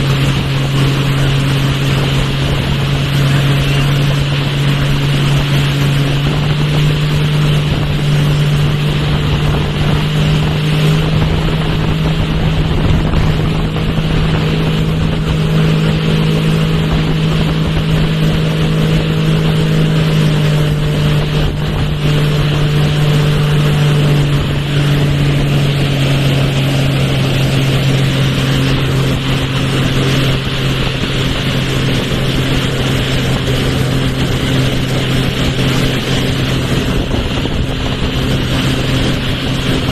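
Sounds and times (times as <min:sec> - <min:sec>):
motorboat engine drone: 0:00.0 - 0:39.9
wind buffeting microphone: 0:00.0 - 0:39.9.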